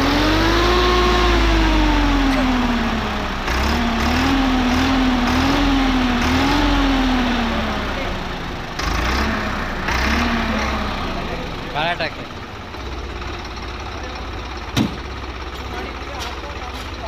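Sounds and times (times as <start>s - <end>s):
tractor diesel engine revving: 0.0s - 17.0s.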